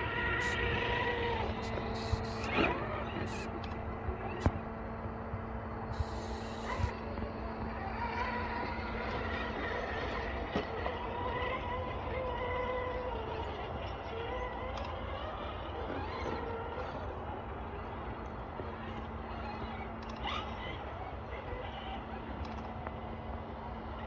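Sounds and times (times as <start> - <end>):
electric motor and gear whine: 0.0 - 24.0.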